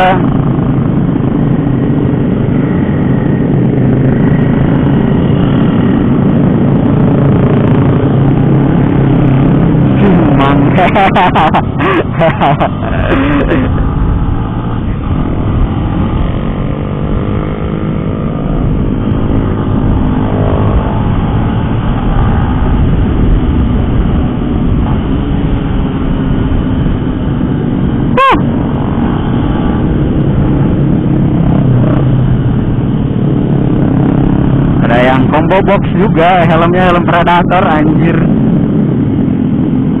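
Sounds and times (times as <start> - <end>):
motorcycle engine running: 0.0 - 40.0
wind rush on microphone: 0.0 - 40.0.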